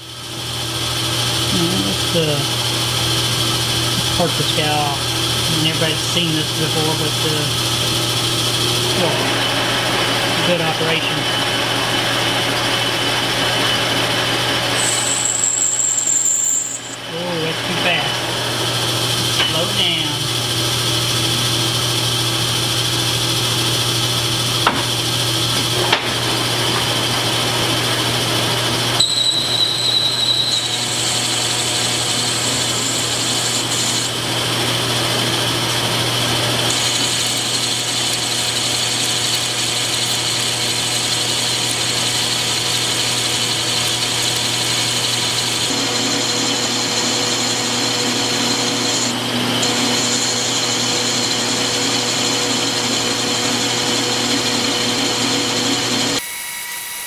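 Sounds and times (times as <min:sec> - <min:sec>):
lathe motor hum and cutting whine: 0:00.0 - 0:57.0.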